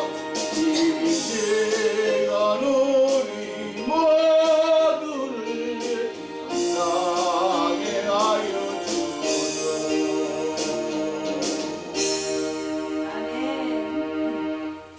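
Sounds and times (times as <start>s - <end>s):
instrumental accompaniment: 0.0s - 14.9s
person singing with vibrato: 0.0s - 14.9s.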